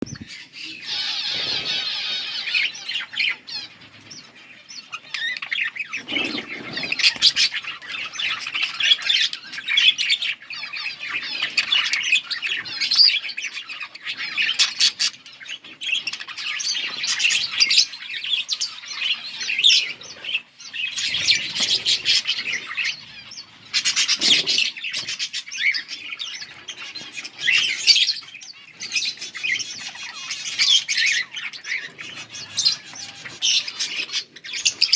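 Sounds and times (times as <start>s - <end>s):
budgies chirping and warbling: 0.0s - 34.9s.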